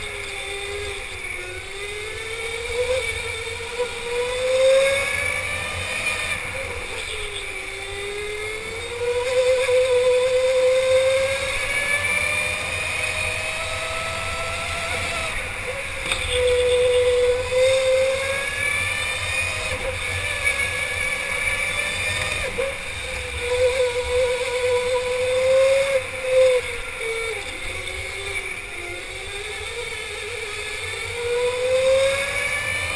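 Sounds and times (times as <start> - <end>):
electric go-kart motor whining: 0.0 - 32.9.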